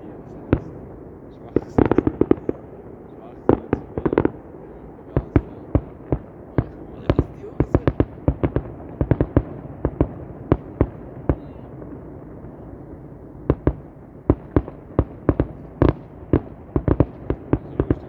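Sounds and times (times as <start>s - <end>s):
fireworks bangs and cracks: 0.0s - 18.0s.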